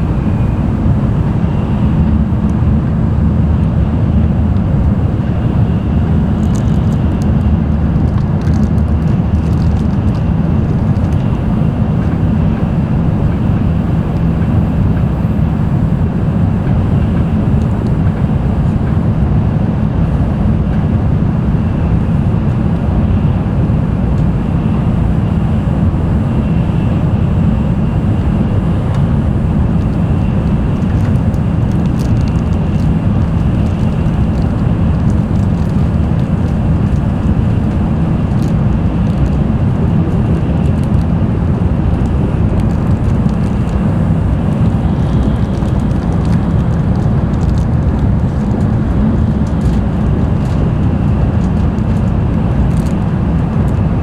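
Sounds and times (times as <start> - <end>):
train running noise from cabin: 0.0 - 54.0.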